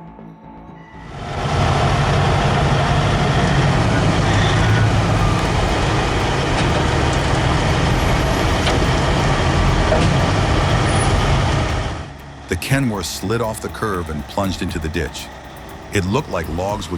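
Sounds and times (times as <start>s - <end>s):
heavy truck engine running: 1.0s - 16.9s.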